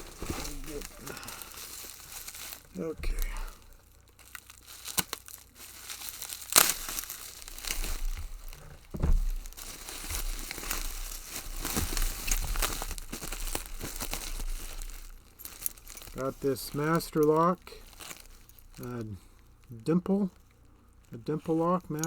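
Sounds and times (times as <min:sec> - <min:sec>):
packing material crumpling and tearing: 0:00.0 - 0:22.0.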